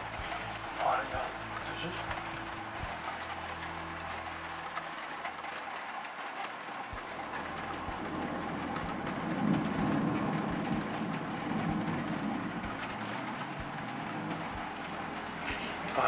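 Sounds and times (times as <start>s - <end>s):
heavy rain: 0.0s - 16.0s
thunder rolling: 0.0s - 16.0s.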